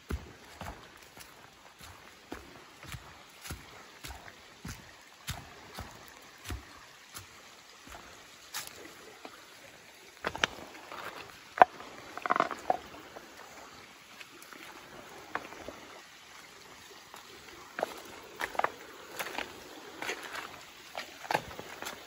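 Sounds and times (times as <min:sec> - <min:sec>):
footsteps on leaves and stones: 0:00.0 - 0:15.9, 0:16.9 - 0:22.0
faint trickle of water: 0:00.1 - 0:22.0.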